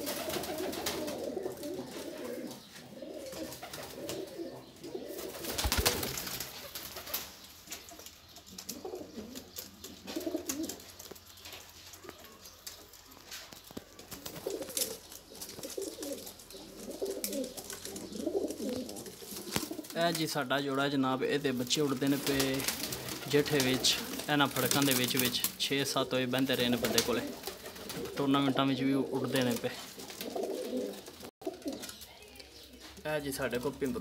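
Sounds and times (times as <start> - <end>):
pigeons cooing: 0.0 - 20.0, 21.4 - 25.5, 26.3 - 32.9.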